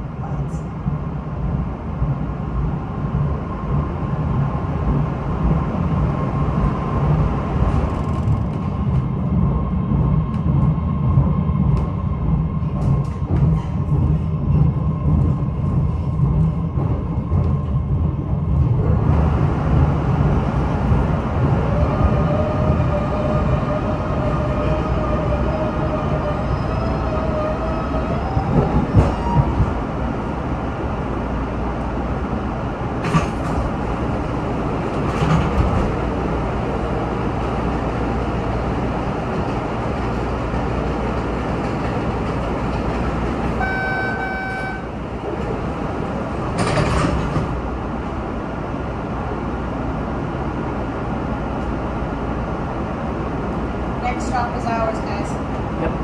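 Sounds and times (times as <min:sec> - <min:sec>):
rising whine of slowing train: 0:00.0 - 0:56.0
subway car rumble: 0:00.0 - 0:56.0.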